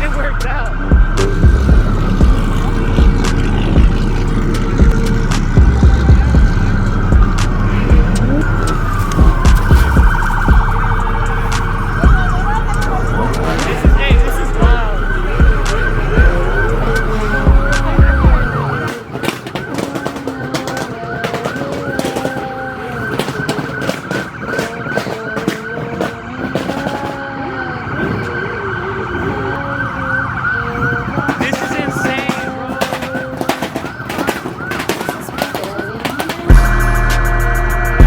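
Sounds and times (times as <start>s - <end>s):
police sirens yelping and wailing: 0.0s - 38.0s.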